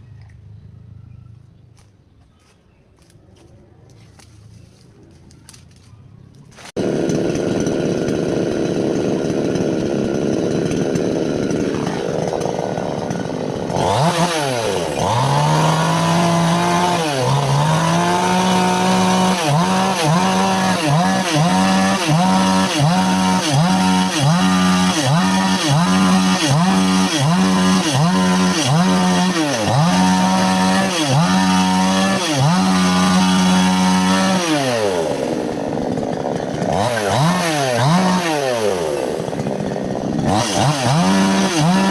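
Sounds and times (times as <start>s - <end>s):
chainsaw cutting wood: 6.5s - 41.9s.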